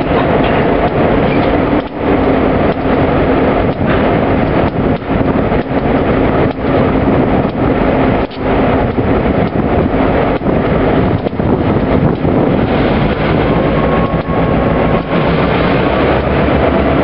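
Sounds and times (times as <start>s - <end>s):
diesel locomotive engine hum: 0.0s - 17.0s
wind on microphone: 0.0s - 17.0s.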